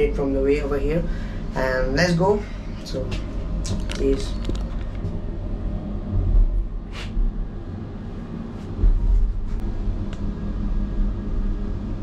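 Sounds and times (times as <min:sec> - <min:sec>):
elevator low rumble: 0:00.0 - 0:12.0.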